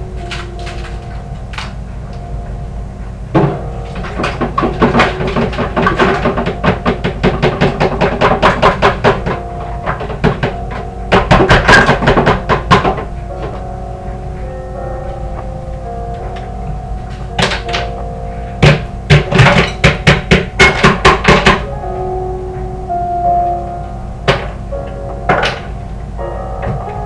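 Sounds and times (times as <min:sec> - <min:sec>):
classical piano music: 0:00.0 - 0:27.0.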